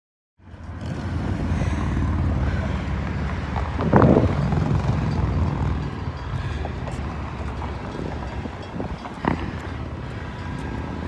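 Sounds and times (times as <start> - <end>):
diesel engine rumble: 0.4 - 11.0.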